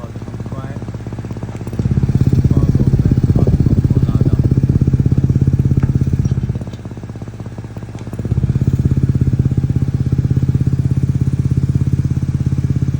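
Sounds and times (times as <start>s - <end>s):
car exhaust idling: 0.0s - 12.9s.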